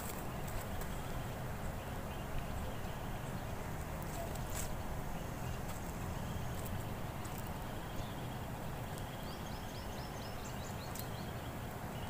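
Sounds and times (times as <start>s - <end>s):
low outdoor background noise: 0.0s - 12.0s.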